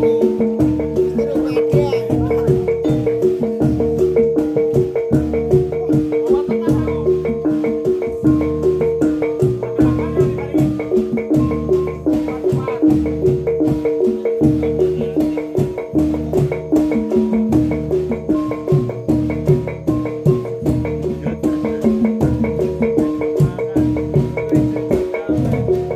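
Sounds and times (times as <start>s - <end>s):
gamelan ensemble playing: 0.0s - 25.9s.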